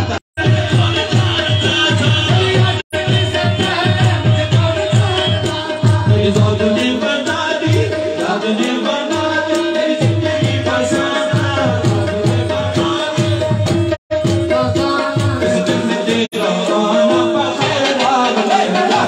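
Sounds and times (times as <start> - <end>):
voices singing: 0.0 - 13.8, 14.5 - 19.0
hand drum rhythm: 0.0 - 19.0.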